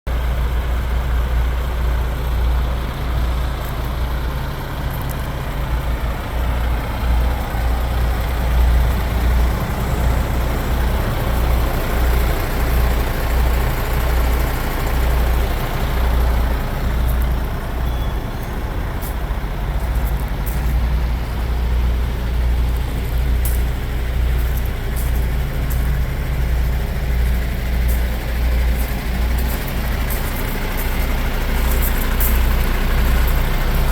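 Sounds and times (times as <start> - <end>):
diesel truck engine idling: 0.1 - 33.9.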